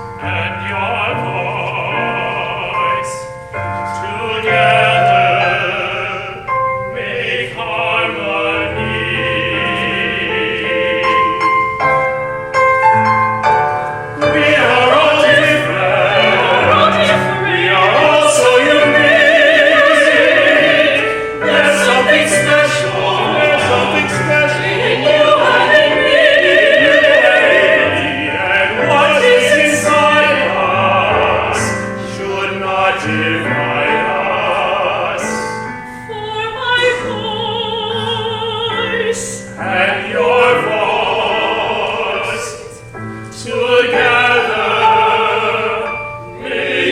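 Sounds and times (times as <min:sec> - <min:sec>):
operatic singing in harmony: 0:00.0 - 0:12.6, 0:13.5 - 0:46.9.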